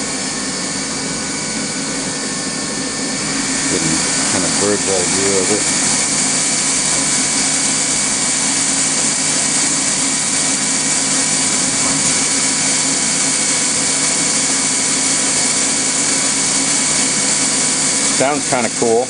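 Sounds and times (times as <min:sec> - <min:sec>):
milling machine high whine: 0:00.0 - 0:19.0.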